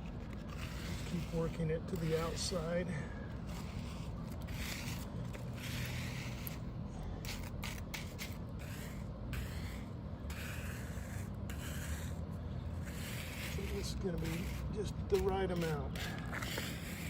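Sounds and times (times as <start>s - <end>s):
spreader scraping asphalt mix: 0.0s - 17.0s.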